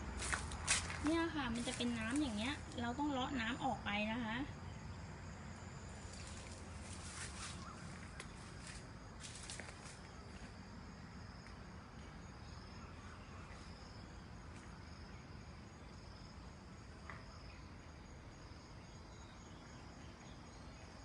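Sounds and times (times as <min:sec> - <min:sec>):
faint insects chirping: 0:00.0 - 0:21.0.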